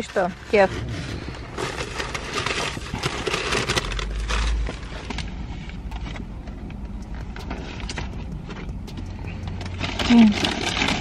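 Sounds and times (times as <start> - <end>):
low rumble: 0.0 - 11.0
paper bags and boxes rustling: 0.0 - 11.0.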